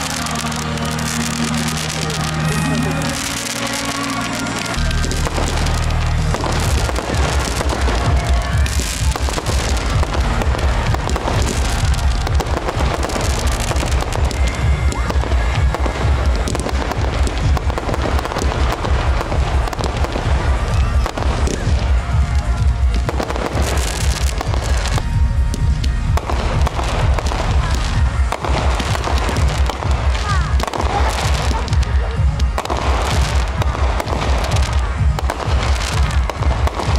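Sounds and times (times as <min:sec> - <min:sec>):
fireworks bursting and booming: 0:00.0 - 0:36.9
music playing: 0:00.0 - 0:36.9.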